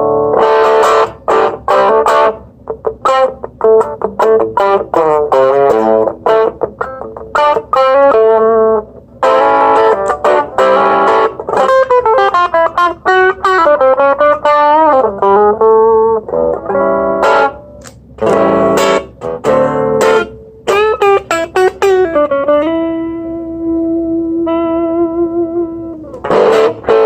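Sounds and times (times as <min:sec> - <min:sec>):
electric guitar through small amp: 0:00.0 - 0:27.0.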